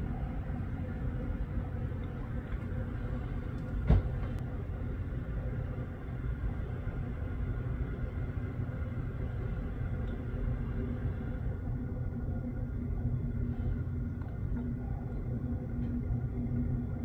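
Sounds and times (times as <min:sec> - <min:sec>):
low rumble with faint hum: 0:00.0 - 0:17.0.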